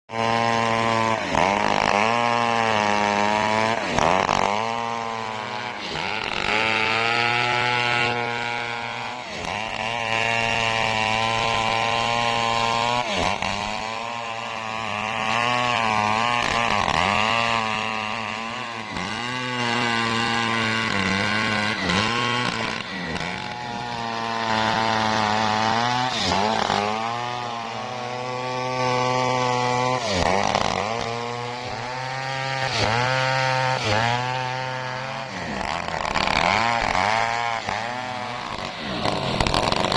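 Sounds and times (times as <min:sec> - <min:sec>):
chainsaw cutting log: 0:00.1 - 0:39.9.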